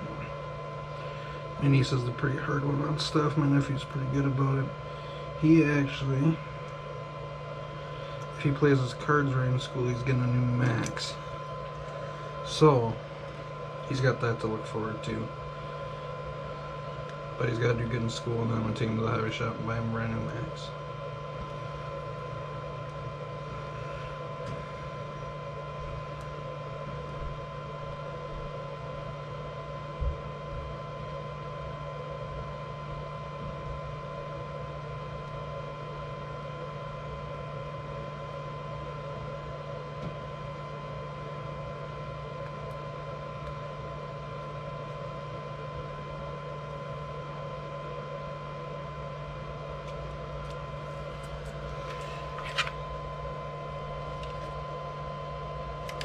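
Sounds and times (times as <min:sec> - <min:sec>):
mechanical hum with high whine: 0:00.0 - 0:56.0.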